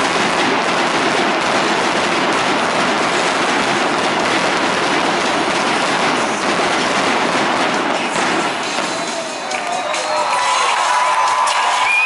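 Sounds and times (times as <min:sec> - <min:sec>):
firework fountain hissing: 0:00.0 - 0:10.3.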